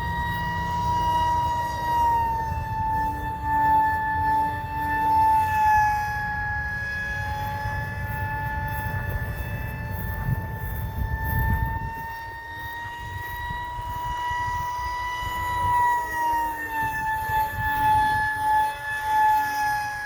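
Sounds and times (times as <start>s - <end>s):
model plane motor whining: 0.0s - 20.0s
wind on microphone: 0.0s - 20.0s.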